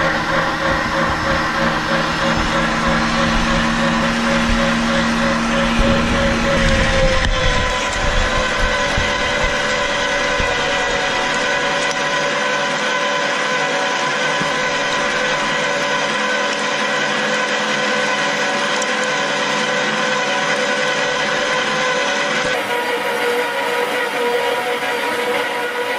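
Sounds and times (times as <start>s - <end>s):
electric meat grinder whining: 0.0s - 25.9s.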